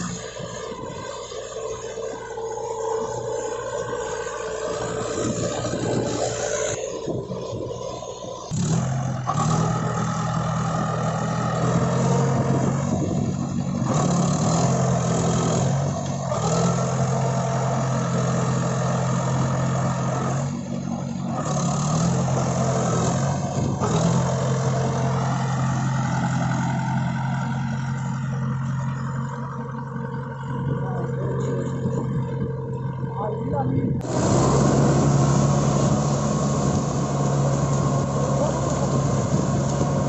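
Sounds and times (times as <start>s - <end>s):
tractor diesel engine revving: 0.0s - 40.0s.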